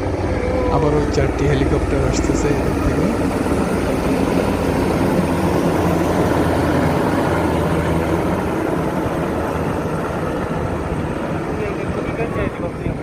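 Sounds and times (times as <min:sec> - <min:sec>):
helicopters flying past: 0:00.0 - 0:13.0.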